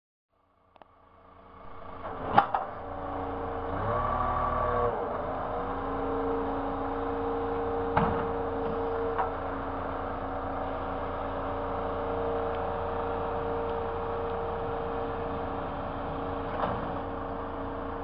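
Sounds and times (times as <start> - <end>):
truck diesel engine and hydraulics: 0.4 - 18.0.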